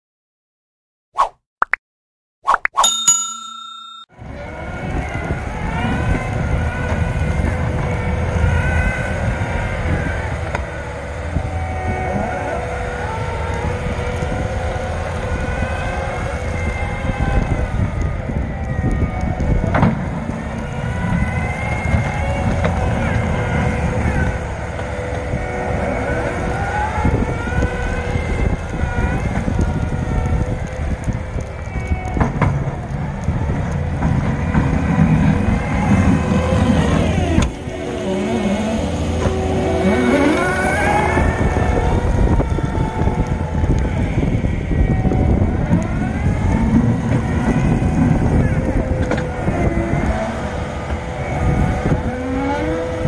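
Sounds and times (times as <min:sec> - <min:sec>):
diesel engine working hard: 0:04.2 - 0:31.6, 0:32.2 - 0:53.0.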